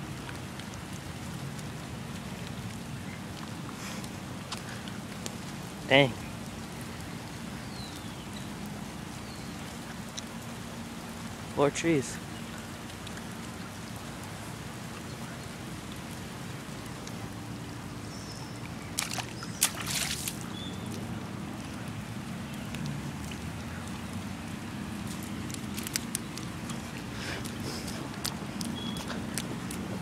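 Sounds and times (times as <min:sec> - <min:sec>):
light rain on wet pavement: 0:00.0 - 0:30.0.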